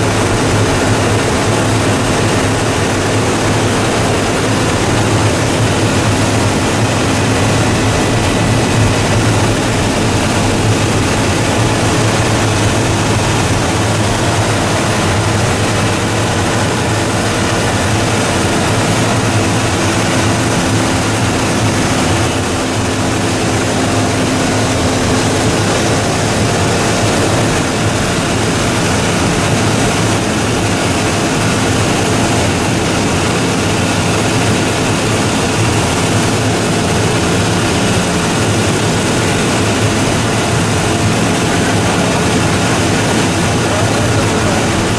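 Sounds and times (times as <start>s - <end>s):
recycling machine running: 0.0s - 44.9s.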